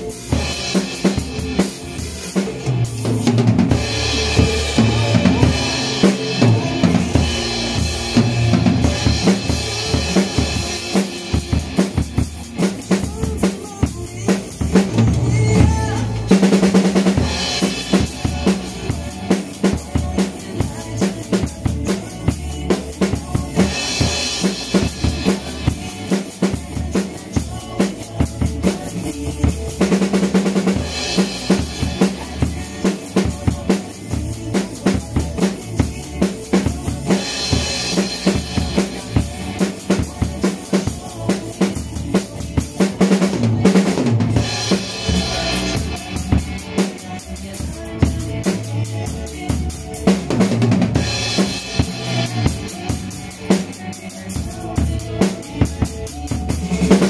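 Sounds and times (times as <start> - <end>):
drum kit groove: 0.0 - 57.0.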